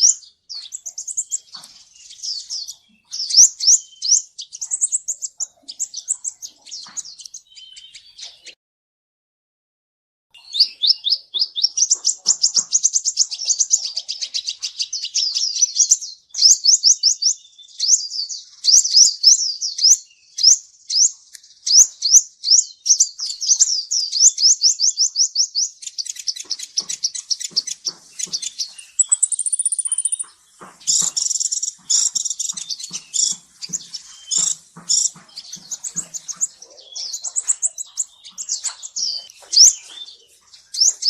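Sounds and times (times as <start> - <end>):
sunbird chirping: 0.0 - 8.6, 10.4 - 41.0.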